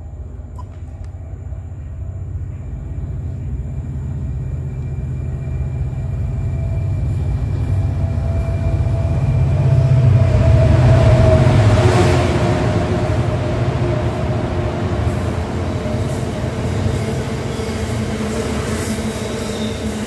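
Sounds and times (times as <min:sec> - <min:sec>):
diesel locomotive engine rumbling: 0:00.0 - 0:20.0
train wheel and rail noise: 0:00.0 - 0:20.0.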